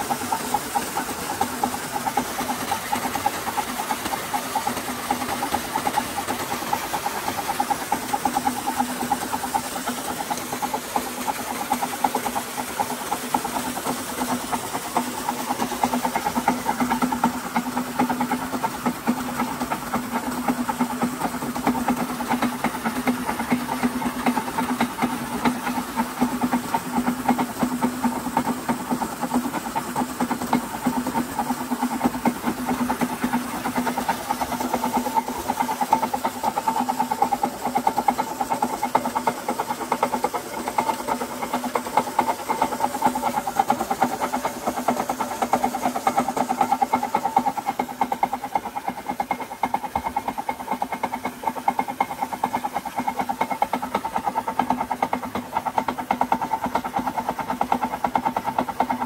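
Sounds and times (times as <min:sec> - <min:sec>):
machine hum with fine rattle: 0:00.0 - 0:59.0
water gushing from pump outlet: 0:00.0 - 0:59.0.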